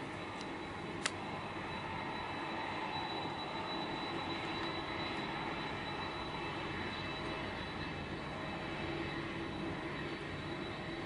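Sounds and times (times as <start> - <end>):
high engine whine: 0.0 - 11.0
jet engines running: 0.0 - 11.0.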